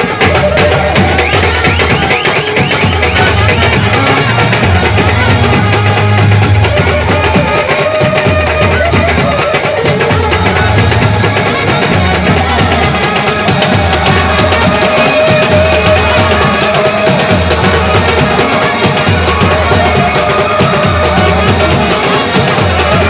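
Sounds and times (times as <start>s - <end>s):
steady drum beat: 0.0s - 23.0s.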